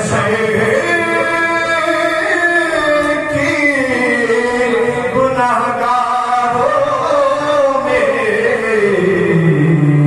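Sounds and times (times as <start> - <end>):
man chanting into a microphone: 0.0 - 10.0.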